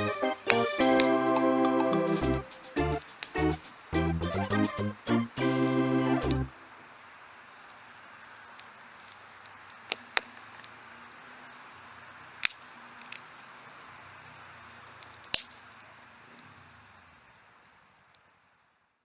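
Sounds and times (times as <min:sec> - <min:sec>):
campfire hissing: 0:00.0 - 0:19.0
fire crackling pops: 0:00.0 - 0:19.0.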